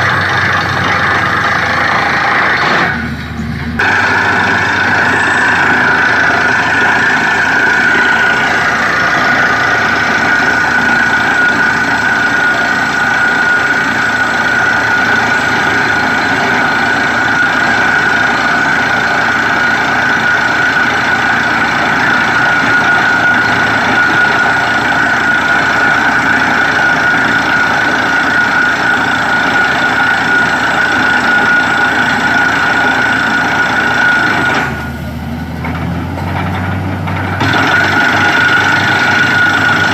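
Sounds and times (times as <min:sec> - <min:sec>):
air compressor running: 0:00.0 - 0:39.9
drilling rig running: 0:00.0 - 0:39.9
high mechanical whine: 0:00.0 - 0:39.9.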